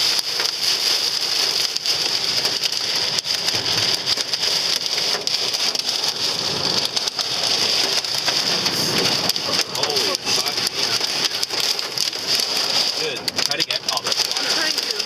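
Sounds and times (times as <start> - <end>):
rain and hail on car roof: 0.0 - 15.0.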